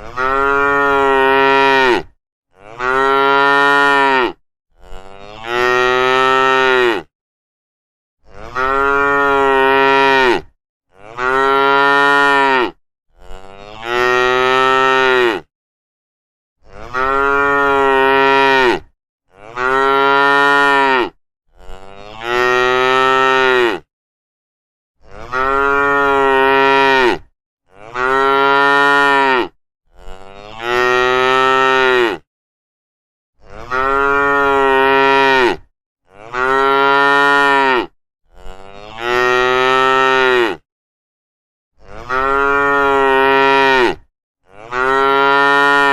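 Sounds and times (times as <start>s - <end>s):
cattle mooing: 0.0s - 7.1s, 8.2s - 15.5s, 16.6s - 23.8s, 25.1s - 32.2s, 33.4s - 40.6s, 41.8s - 45.9s.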